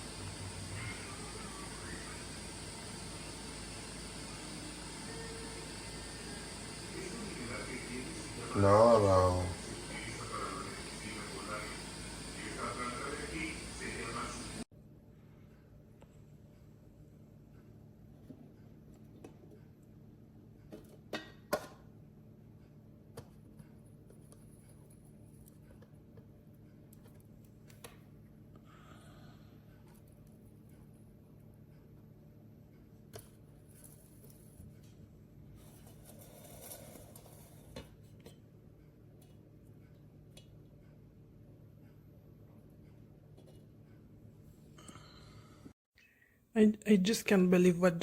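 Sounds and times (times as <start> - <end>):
faint room hum: 0.0 - 48.0.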